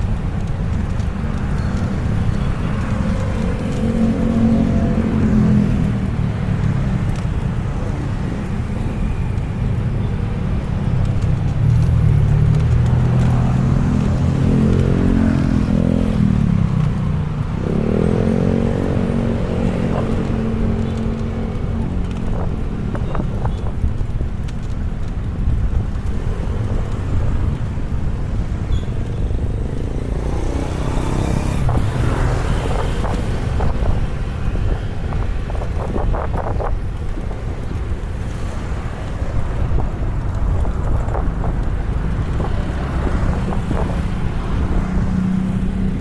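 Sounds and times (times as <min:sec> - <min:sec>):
steady low traffic rumble: 0:00.0 - 0:46.0
vehicles passing by: 0:00.0 - 0:46.0.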